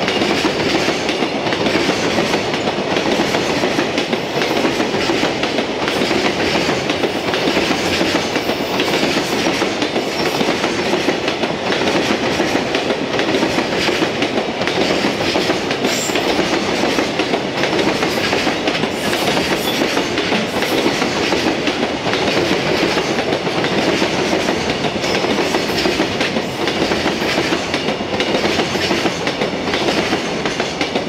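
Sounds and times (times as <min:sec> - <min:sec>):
train wheels clattering over rail joints: 0:00.0 - 0:31.0.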